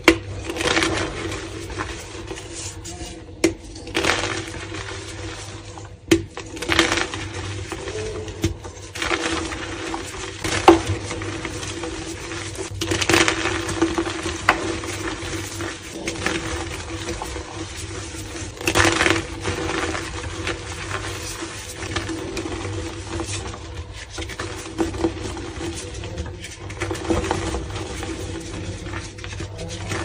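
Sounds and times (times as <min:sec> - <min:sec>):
chalk crunching and cracking: 0:00.2 - 0:30.0.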